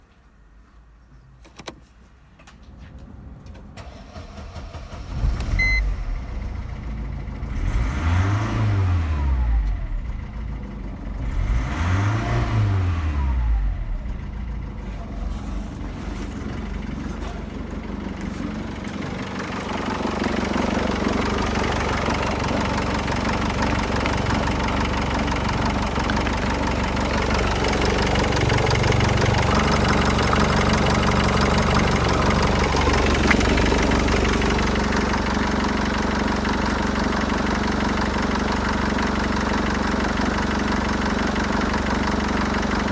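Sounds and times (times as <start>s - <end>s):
diesel engine starting and revving: 3.2s - 42.9s.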